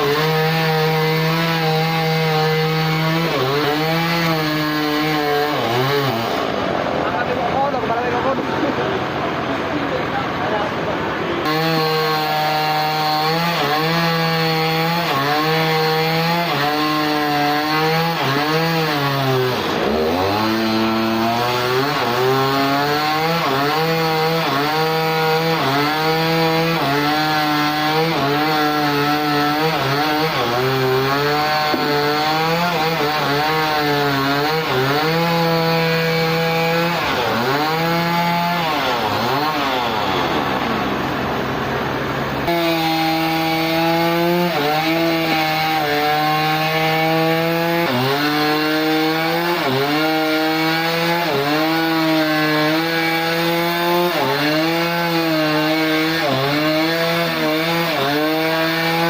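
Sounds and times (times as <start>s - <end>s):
sawmill saw cutting log: 0.0s - 59.0s.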